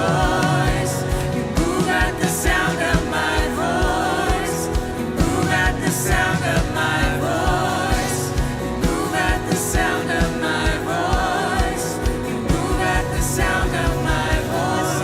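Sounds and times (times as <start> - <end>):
band playing: 0.0 - 15.0
steady drum beat: 0.0 - 15.0
voices singing: 0.0 - 15.0.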